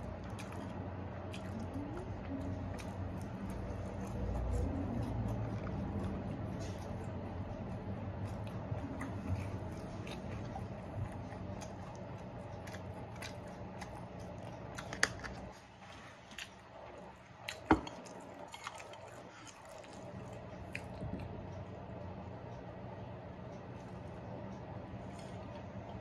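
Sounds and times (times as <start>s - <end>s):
chewing: 0.0s - 22.6s, 23.2s - 26.0s
steady low hum: 0.0s - 26.0s.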